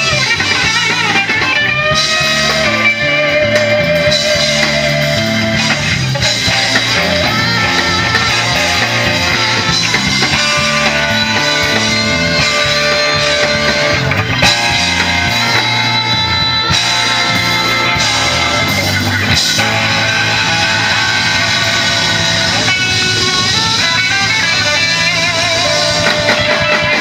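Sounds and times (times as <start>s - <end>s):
bass line: 0.0s - 27.0s
guitar: 0.0s - 27.0s
live band through pa: 0.0s - 27.0s.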